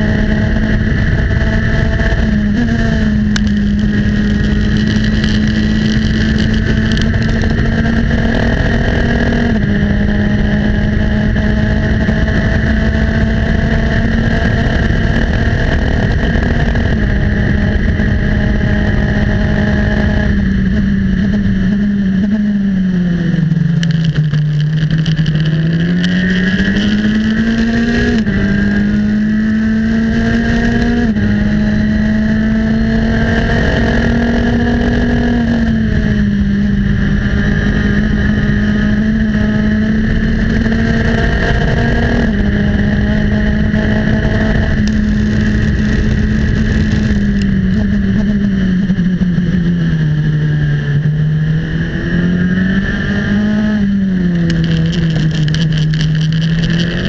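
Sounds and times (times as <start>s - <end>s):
race car engine at high revs: 0.0s - 57.0s
wind rush: 0.0s - 57.0s.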